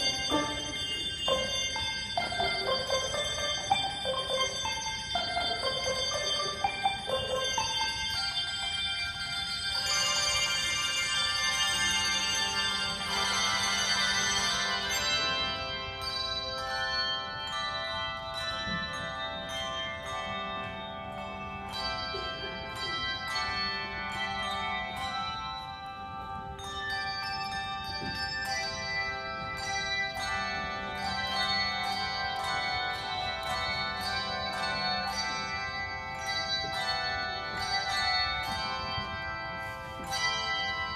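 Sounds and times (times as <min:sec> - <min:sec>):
handbell choir playing: 0:00.0 - 0:40.9.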